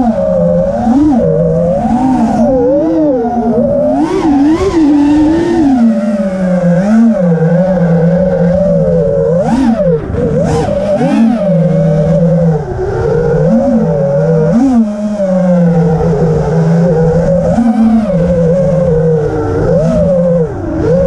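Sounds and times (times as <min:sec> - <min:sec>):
drone motors and propellers whining: 0:00.0 - 0:21.0.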